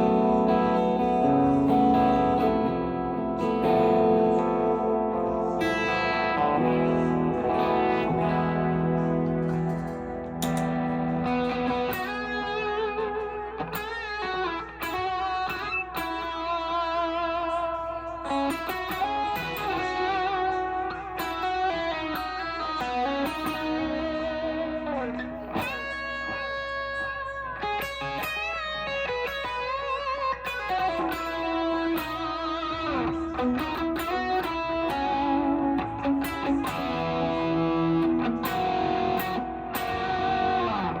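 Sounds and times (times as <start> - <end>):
electric guitar notes and chords: 0.0 - 41.0.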